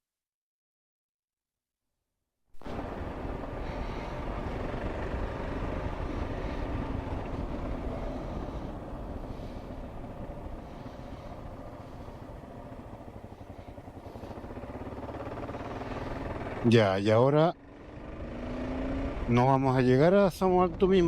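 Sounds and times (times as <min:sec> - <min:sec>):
motorcycle engine running: 0:02.6 - 0:21.0.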